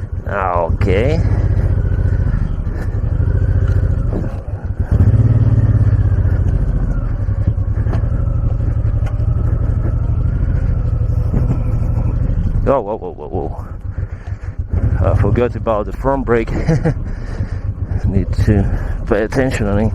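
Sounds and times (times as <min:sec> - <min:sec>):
motorcycle engine under load: 0:00.0 - 0:19.9.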